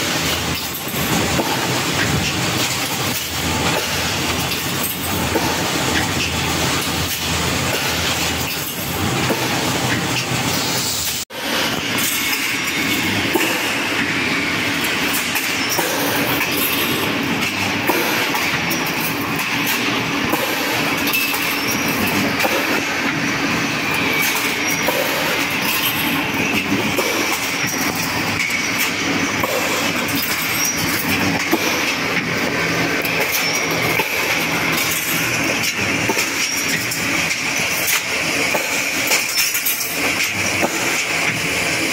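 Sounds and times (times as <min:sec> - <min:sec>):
wire mesh machine clattering: 0:00.0 - 0:10.6, 0:11.6 - 0:41.9.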